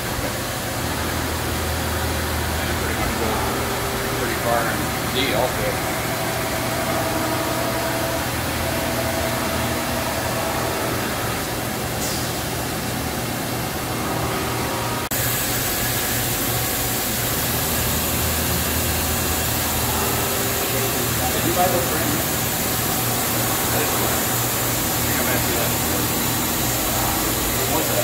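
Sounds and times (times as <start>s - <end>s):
machinery hum and hiss: 0.0s - 28.0s.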